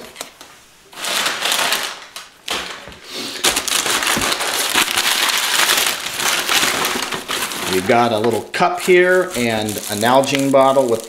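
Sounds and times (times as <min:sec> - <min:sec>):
packing paper crinkling: 0:00.0 - 0:11.0.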